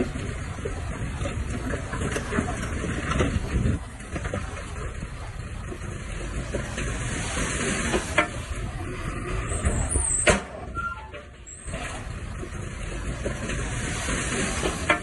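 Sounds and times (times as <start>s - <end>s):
heavy machinery rumble: 0.0s - 15.0s.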